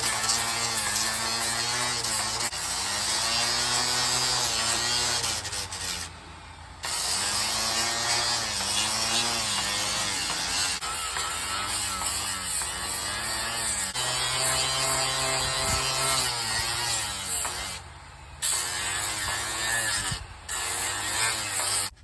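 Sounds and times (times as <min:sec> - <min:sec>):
electric sander on plastic: 0:00.0 - 0:22.0.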